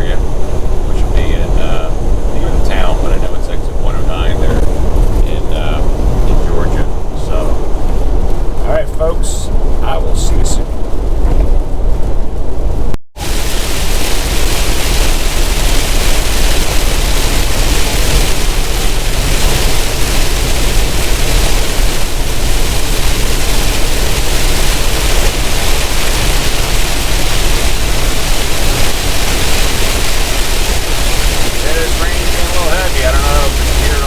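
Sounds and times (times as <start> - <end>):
truck tyre spray on wet road: 0.0 - 11.2, 13.2 - 34.0
low engine rumble: 0.0 - 34.0
rain: 0.0 - 34.0
wind noise: 0.0 - 34.0.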